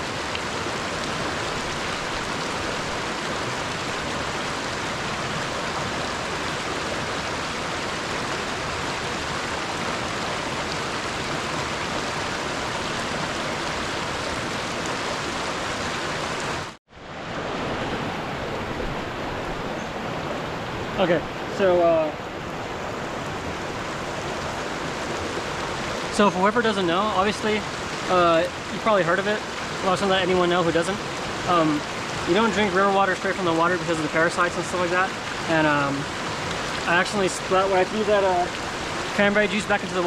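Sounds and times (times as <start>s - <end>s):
river flowing: 0.0s - 40.0s.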